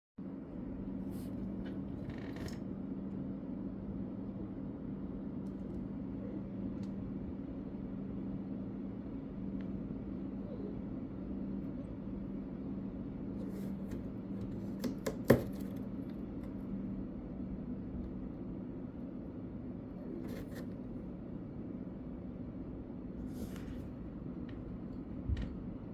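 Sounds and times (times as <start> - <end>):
steady low hum: 0.2 - 25.9.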